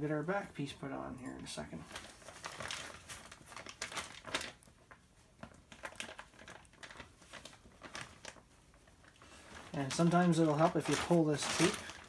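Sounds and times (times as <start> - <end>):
plastic tarp crinkling and rustling: 1.4 - 12.0.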